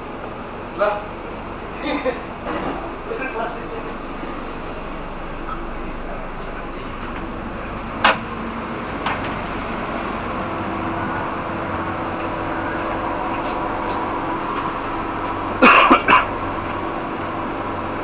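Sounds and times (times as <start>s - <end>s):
low steady drone: 0.0s - 18.0s
train carriage hum: 0.0s - 18.0s.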